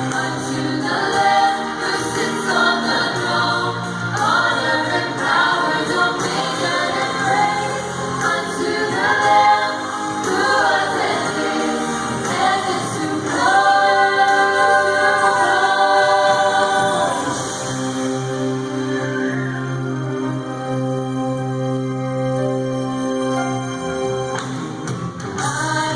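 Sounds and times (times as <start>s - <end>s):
choir singing: 0.0s - 22.6s, 25.4s - 25.9s.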